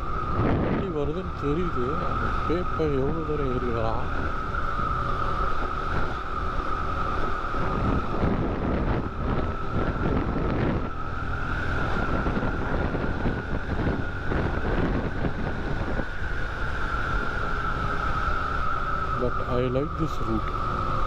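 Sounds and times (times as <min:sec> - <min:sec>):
motorcycle engine cruising: 0:00.0 - 0:21.0
steady high whine: 0:00.0 - 0:21.0
wind rushing on microphone: 0:00.0 - 0:21.0.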